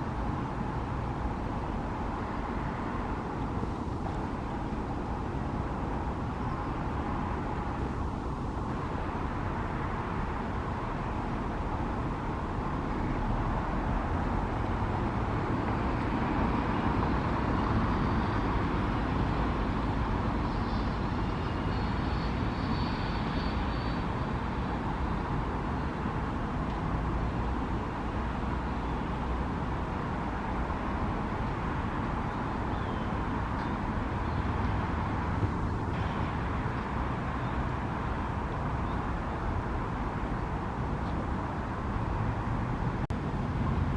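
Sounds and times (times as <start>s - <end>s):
distant traffic hum: 0.0s - 43.9s.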